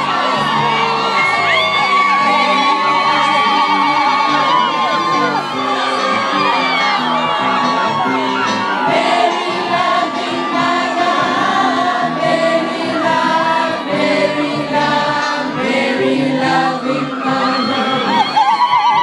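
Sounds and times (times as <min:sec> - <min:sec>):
crowd singing a hymn: 0:00.0 - 0:18.5.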